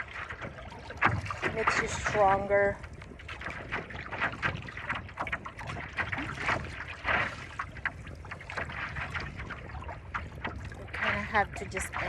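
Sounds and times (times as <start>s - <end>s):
water slapping against paddleboard: 0.0s - 12.0s
wind rumbling on microphone: 0.0s - 12.0s.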